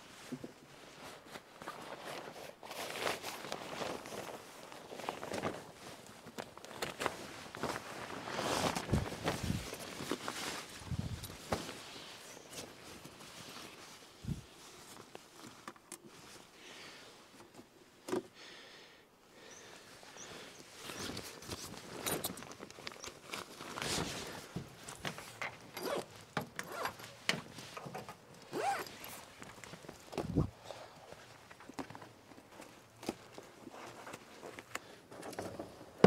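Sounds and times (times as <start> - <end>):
tent fabric rustling: 0.0 - 17.4, 19.6 - 34.7.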